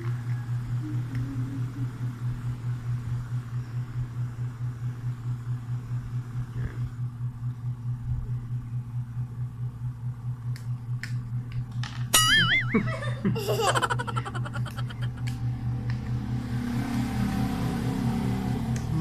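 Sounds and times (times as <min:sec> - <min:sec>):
electric fan motor humming: 0:00.0 - 0:19.0.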